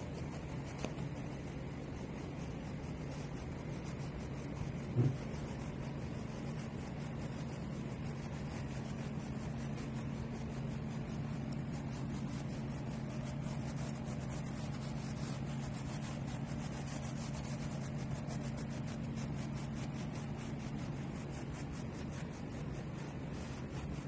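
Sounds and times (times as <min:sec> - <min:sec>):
steady low hum: 0:00.0 - 0:24.0
stiff brush rubbing canvas: 0:00.0 - 0:24.0.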